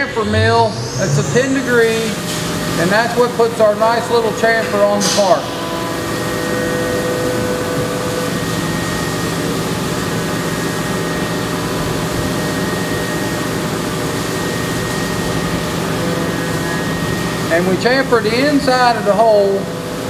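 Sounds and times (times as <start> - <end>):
milling machine spindle noise: 0.0 - 19.8.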